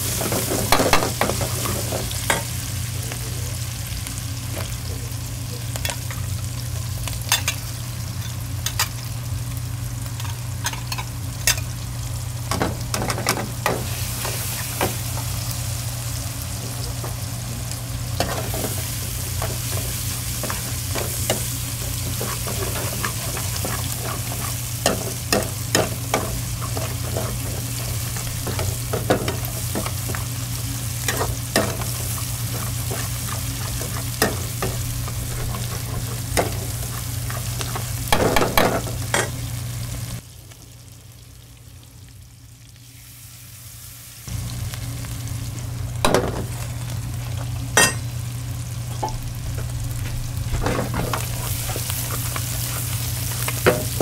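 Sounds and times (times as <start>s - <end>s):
food sizzling in pan: 0.0s - 54.0s.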